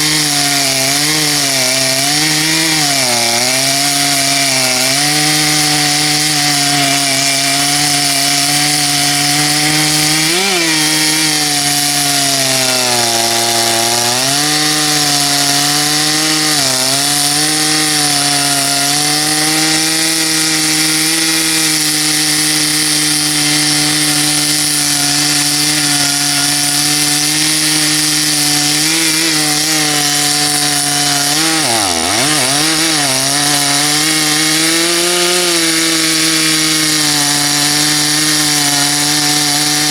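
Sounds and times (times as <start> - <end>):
chainsaw cutting at full throttle: 0.0 - 39.9.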